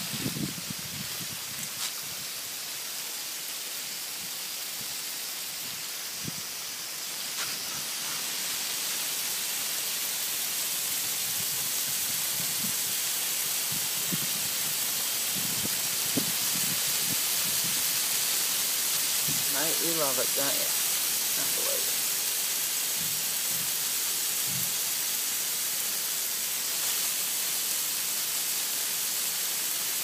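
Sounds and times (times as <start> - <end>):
garden hose spraying water: 0.0 - 30.0.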